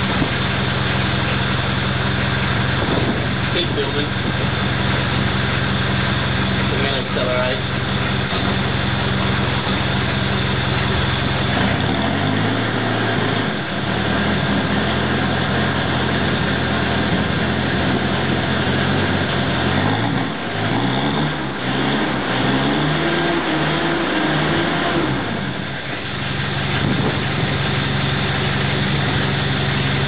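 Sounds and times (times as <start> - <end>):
car engine idling unevenly: 0.0 - 30.0.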